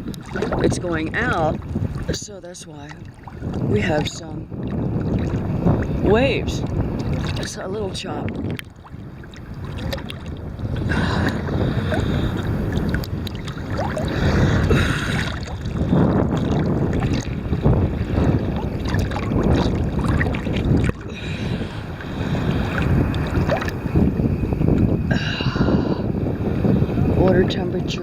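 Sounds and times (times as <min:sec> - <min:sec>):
seawater sloshing and splashing: 0:00.0 - 0:24.9
wind buffeting microphone: 0:00.0 - 0:28.0.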